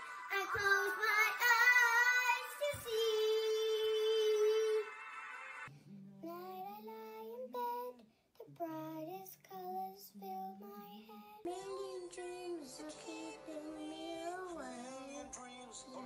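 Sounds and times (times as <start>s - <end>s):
child singing slow melody: 0.0s - 4.9s, 6.2s - 15.4s.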